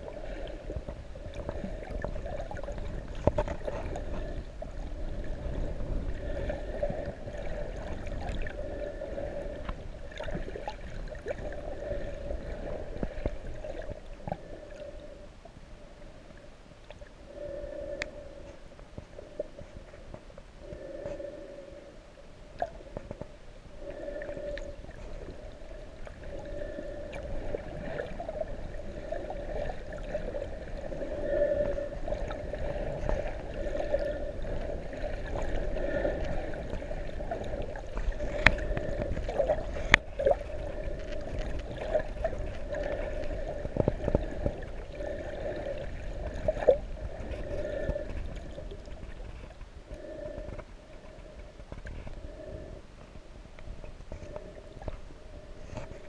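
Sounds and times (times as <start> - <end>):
gurgling water: 0.0 - 56.0
wavering underwater hum: 0.0 - 56.0.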